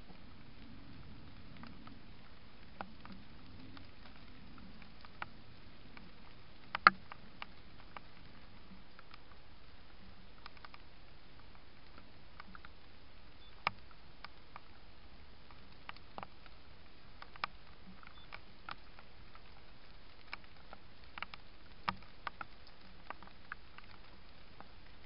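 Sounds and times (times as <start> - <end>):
microphone hiss: 0.0 - 25.0.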